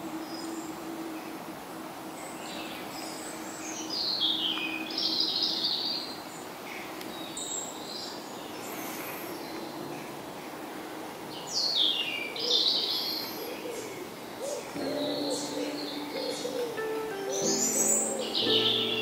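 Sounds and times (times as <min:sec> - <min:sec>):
songbird singing: 0:02.0 - 0:09.9, 0:11.3 - 0:19.0.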